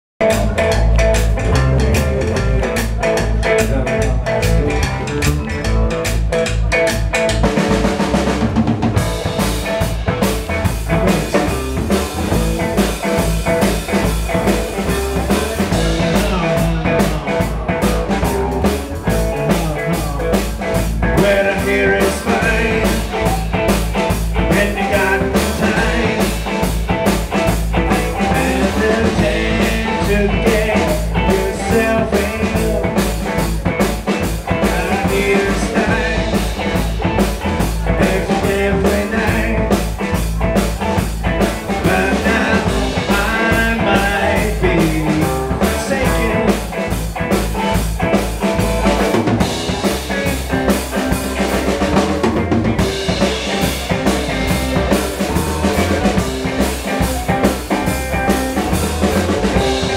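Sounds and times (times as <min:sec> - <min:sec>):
drum kit with cymbals: 0:00.2 - 0:59.9
electric bass guitar: 0:00.2 - 0:59.9.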